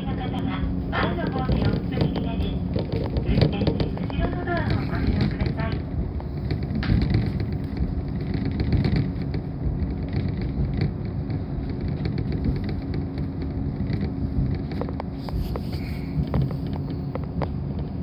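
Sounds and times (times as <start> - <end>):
railcar engine and wheels rumbling: 0.0 - 18.0
steady hum: 0.0 - 18.0.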